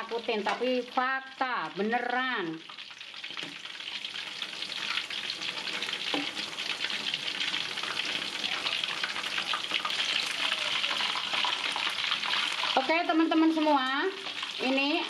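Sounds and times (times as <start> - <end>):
chicken deep-frying in oil: 0.0 - 15.0.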